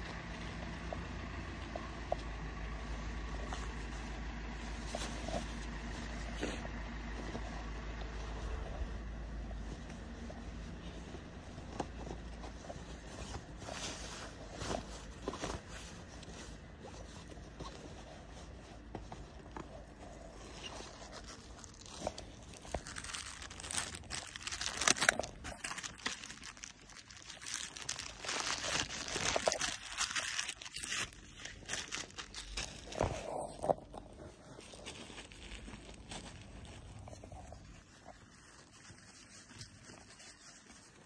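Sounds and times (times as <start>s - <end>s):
crunching footsteps: 0.0s - 40.9s.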